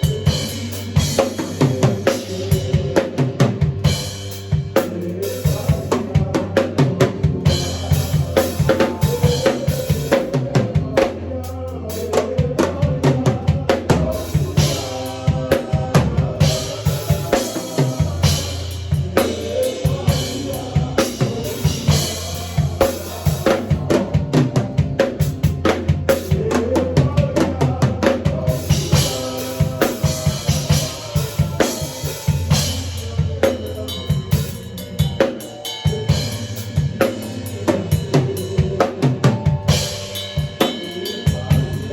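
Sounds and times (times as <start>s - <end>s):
drum kit groove: 0.0s - 41.9s.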